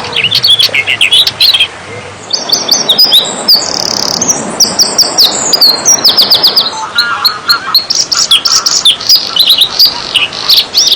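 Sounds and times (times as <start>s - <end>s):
songbirds chirping: 0.0s - 10.9s.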